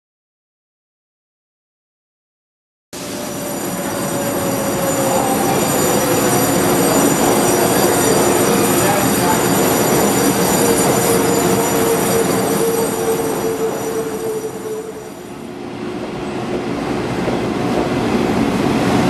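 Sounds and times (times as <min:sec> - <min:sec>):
electric train rumble: 0:03.0 - 0:19.0.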